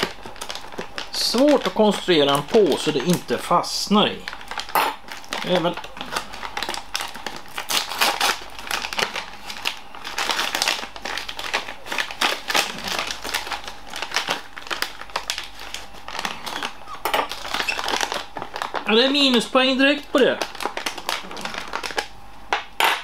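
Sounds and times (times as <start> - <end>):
plastic bag crinkling: 0.0 - 22.2.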